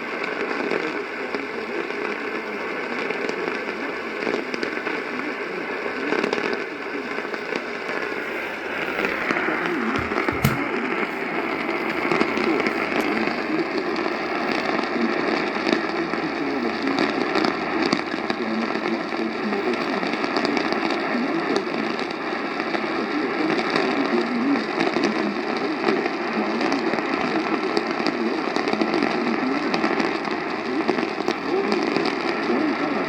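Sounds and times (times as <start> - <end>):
radio static hiss with crackles: 0.0 - 33.0.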